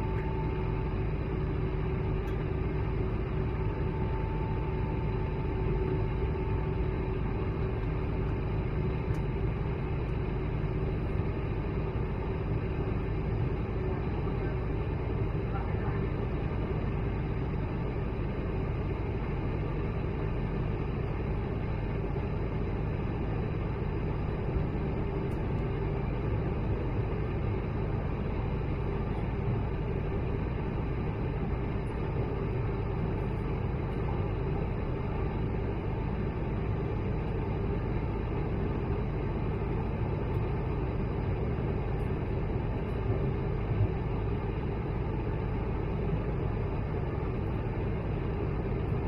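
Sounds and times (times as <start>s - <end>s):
aircraft cabin engine drone: 0.0s - 49.0s
faint steady hum: 0.0s - 49.0s.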